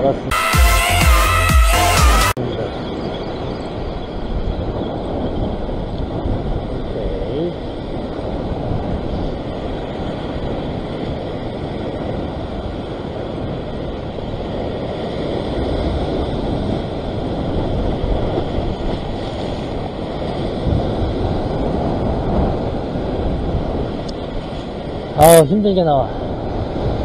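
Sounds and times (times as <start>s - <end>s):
wind buffeting microphone: 2.4s - 27.0s.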